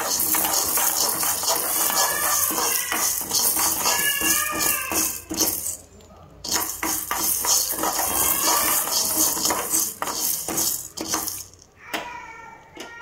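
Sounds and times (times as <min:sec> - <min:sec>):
spoon scraping metal pan: 0:00.0 - 0:05.7, 0:06.5 - 0:11.4
dry pearls rattling: 0:00.0 - 0:11.7.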